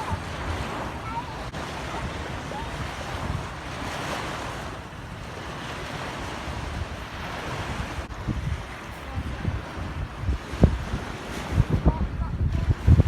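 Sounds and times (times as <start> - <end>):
sea surf washing on beach: 0.0 - 13.0
wind buffeting microphone: 0.0 - 13.0.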